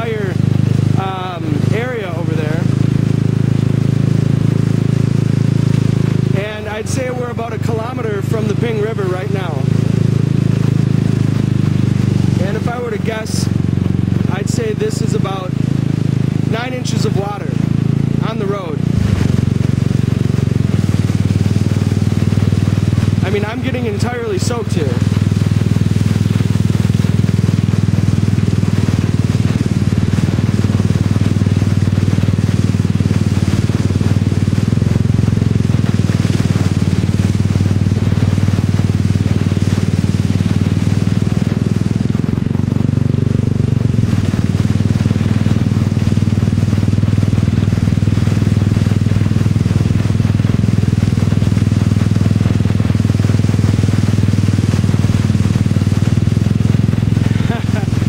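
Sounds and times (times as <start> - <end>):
motorbike engine running: 0.0 - 58.0
water splashing from wheels: 0.0 - 58.0.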